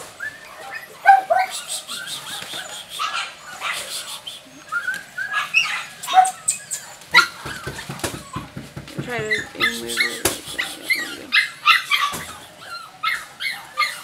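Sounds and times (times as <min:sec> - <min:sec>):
puppies yipping and whining: 0:00.0 - 0:14.0.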